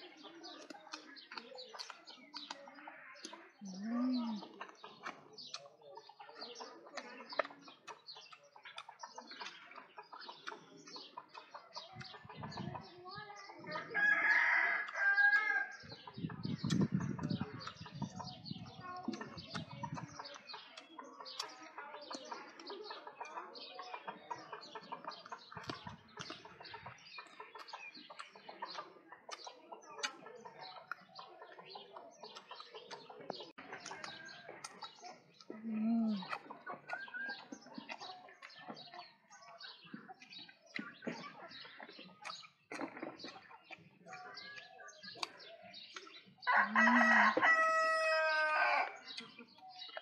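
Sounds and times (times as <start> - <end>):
chickens clucking: 0.0 - 50.0
small birds chirping: 0.0 - 50.0.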